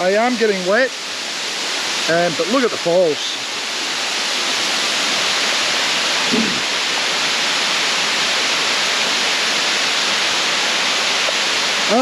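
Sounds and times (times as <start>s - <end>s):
rain falling: 0.0s - 12.0s
waterfall rushing: 0.0s - 12.0s.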